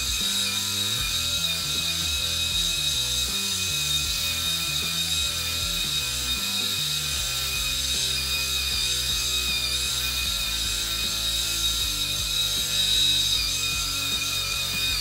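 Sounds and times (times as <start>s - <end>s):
electric shaver whining: 0.0s - 15.0s.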